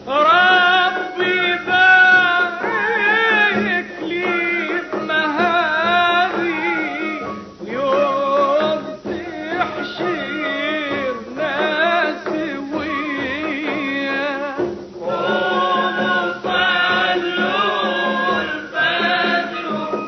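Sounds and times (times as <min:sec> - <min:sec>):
man singing religious song: 0:00.0 - 0:20.0.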